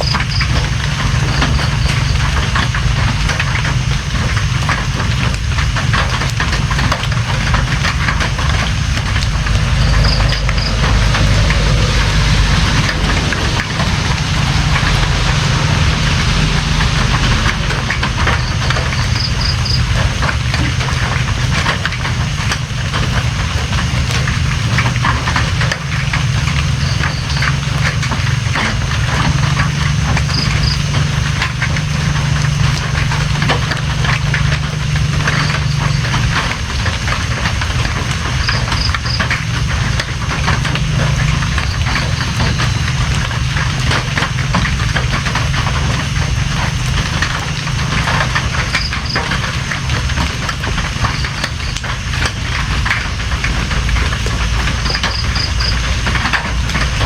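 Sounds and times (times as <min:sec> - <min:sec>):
low rumble: 0:00.0 - 0:57.0
rain pattering: 0:00.0 - 0:57.0.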